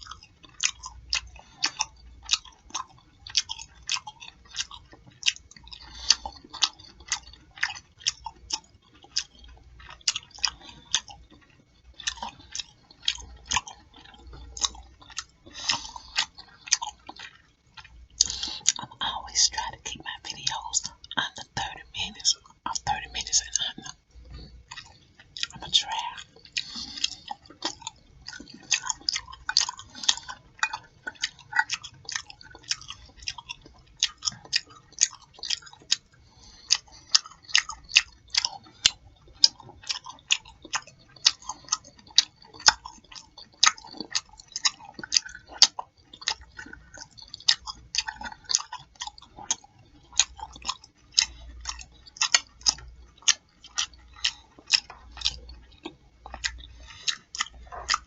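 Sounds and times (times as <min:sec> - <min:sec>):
lip smacking: 0:00.0 - 0:58.0
person chewing food: 0:00.0 - 0:58.0.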